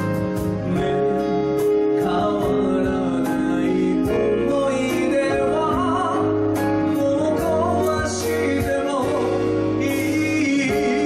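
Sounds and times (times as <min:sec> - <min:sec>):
band playing: 0:00.0 - 0:11.0
man singing a ballad: 0:00.0 - 0:11.0.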